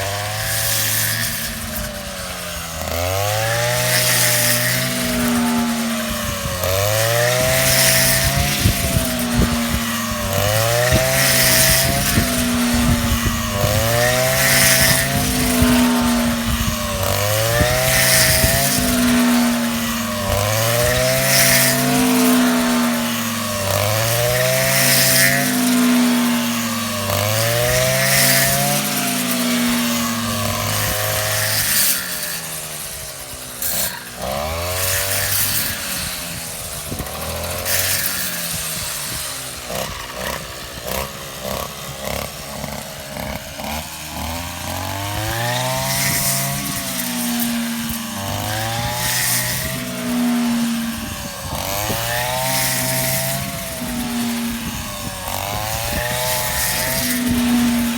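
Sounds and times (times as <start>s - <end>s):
small engine running hard: 0.0s - 57.9s.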